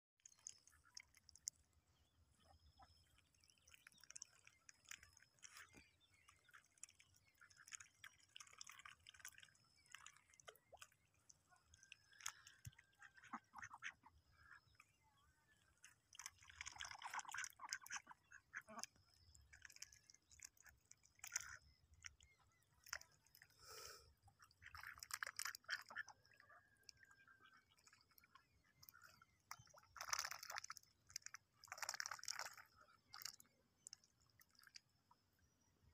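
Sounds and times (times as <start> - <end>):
ducks dabbling in mud: 0.2 - 35.4.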